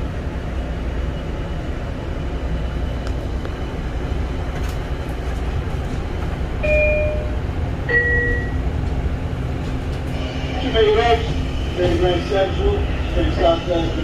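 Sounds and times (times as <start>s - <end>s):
railcar rumbling: 0.0s - 14.0s.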